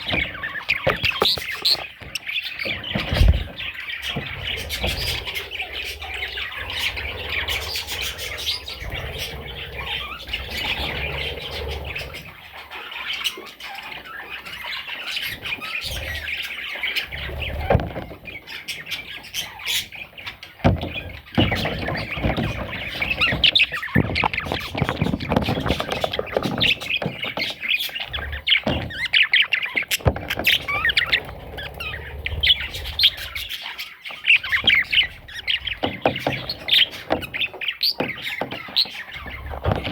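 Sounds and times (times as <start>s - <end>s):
budgerigar chattering and squawking: 0.0s - 20.4s, 21.4s - 39.9s.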